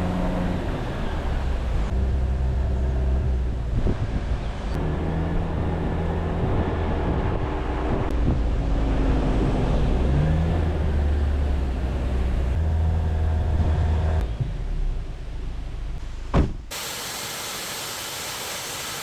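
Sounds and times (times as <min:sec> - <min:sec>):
car engine hum: 0:00.0 - 0:16.4
road and tyre noise: 0:00.0 - 0:19.0.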